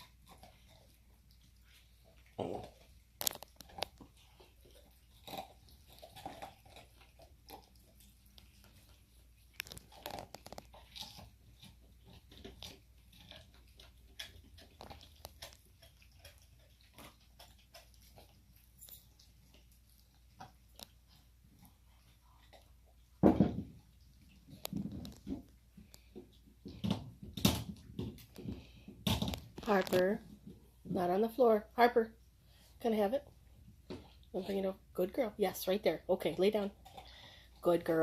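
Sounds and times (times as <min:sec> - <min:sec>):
dog gnawing a bone: 0:00.0 - 0:30.9, 0:35.9 - 0:38.0.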